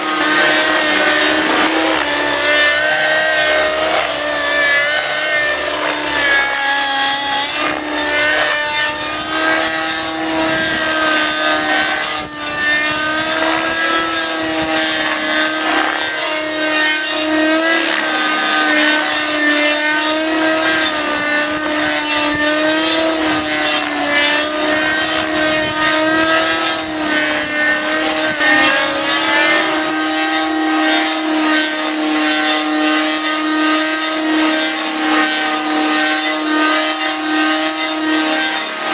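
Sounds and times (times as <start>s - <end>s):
model helicopter engine whining: 0.0s - 38.9s.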